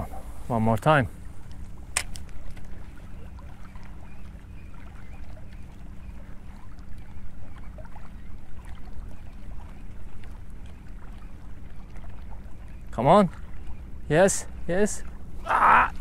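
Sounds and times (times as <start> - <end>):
seawater lapping at shore: 0.0 - 16.0.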